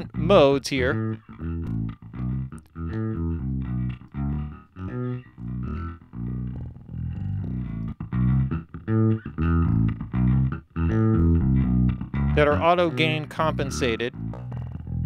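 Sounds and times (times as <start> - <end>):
bass playing short notes: 0.0 - 15.0.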